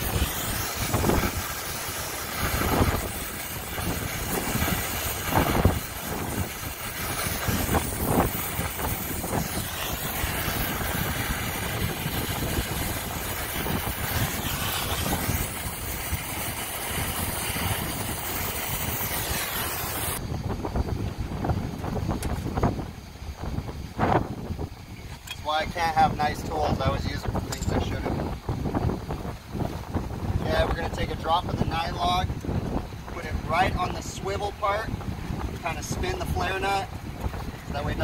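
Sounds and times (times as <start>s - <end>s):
torch flame roaring: 0.0s - 38.0s.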